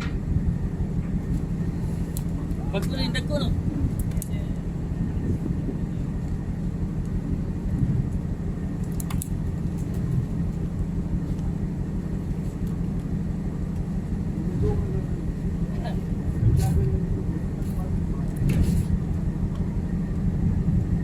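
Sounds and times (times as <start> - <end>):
ship machinery rumbling: 0.0 - 21.0.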